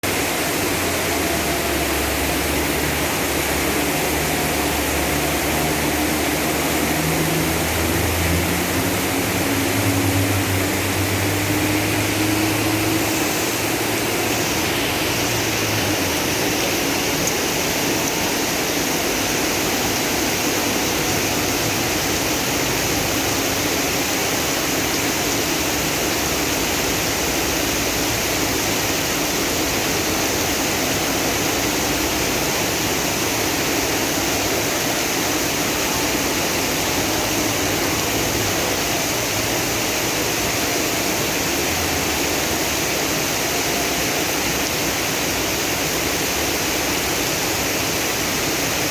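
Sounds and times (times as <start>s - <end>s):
floodwater running: 0.0s - 48.9s
heavy rain pouring: 0.0s - 48.9s.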